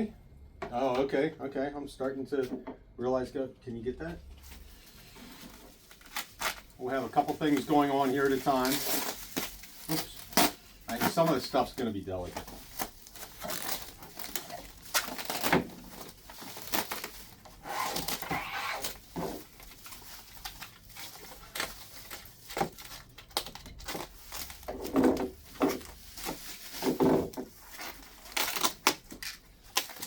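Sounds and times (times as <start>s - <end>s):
cardboard and packing rustling: 4.2s - 30.0s.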